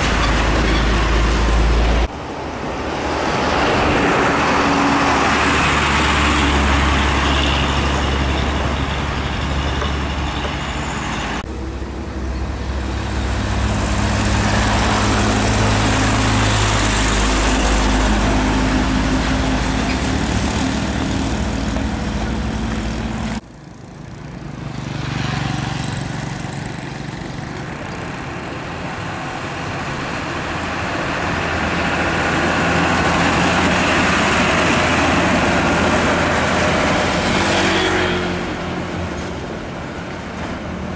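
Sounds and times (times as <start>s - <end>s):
diesel trucks passing: 0.0s - 40.9s
tyre and road noise: 0.0s - 40.9s.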